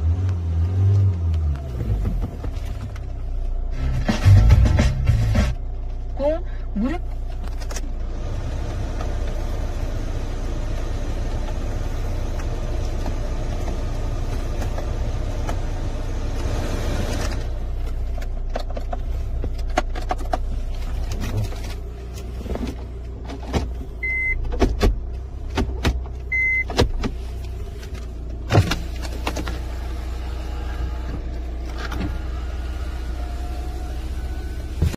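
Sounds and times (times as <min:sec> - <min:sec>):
car engine idling: 0:01.3 - 0:34.9.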